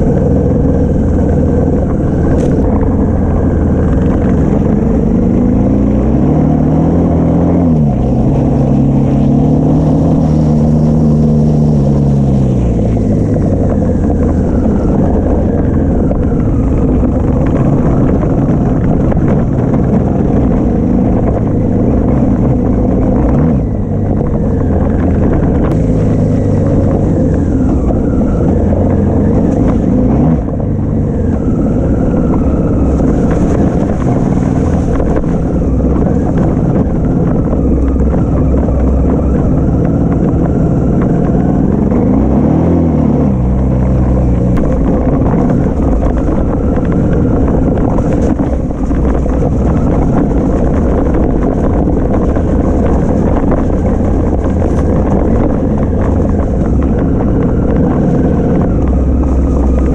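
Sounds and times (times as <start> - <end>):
motorcycle engine revving: 0.0 - 59.9
wind on microphone: 0.0 - 59.9.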